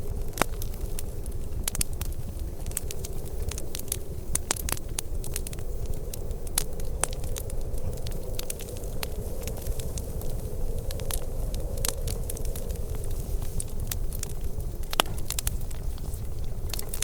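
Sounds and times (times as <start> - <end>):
low fire rumble: 0.0 - 17.0
wood fire crackling and popping: 0.0 - 17.0.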